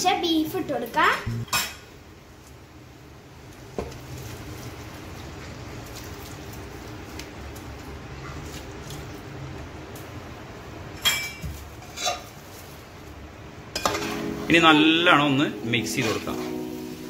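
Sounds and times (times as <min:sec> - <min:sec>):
food sizzling in metal pot: 0:00.0 - 0:07.7, 0:10.8 - 0:17.0.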